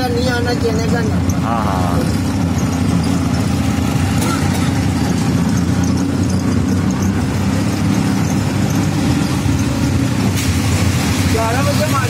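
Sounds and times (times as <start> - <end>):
auto rickshaw engine running: 0.0 - 12.0.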